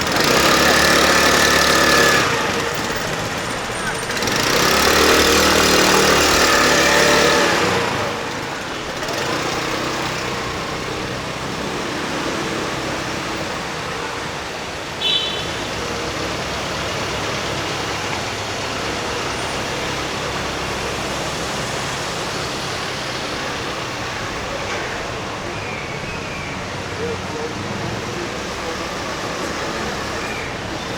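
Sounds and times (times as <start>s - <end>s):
city street traffic: 0.0s - 30.9s
vehicle passing: 0.0s - 30.9s.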